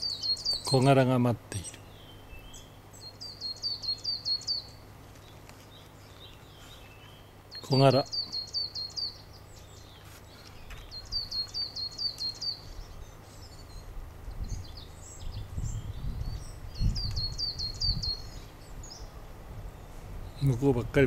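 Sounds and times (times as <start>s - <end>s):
small bird calling: 0.0s - 20.7s.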